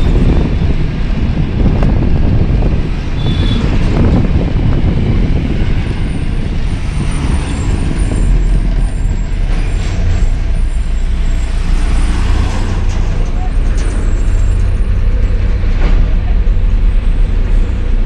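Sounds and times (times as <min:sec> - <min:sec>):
road and tyre noise: 0:00.0 - 0:18.0
truck engine droning: 0:00.0 - 0:18.0.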